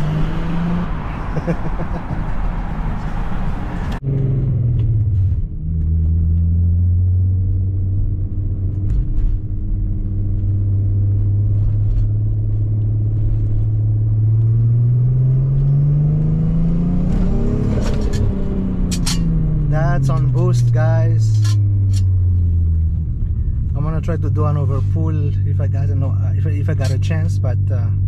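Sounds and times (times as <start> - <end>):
car engine from inside cabin: 0.0 - 28.0.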